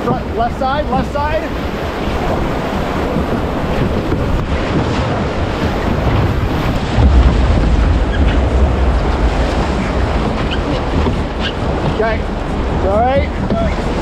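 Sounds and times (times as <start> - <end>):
rushing whitewater: 0.0 - 14.0
wind buffeting microphone: 0.0 - 14.0
heavy low rumble: 1.9 - 14.0.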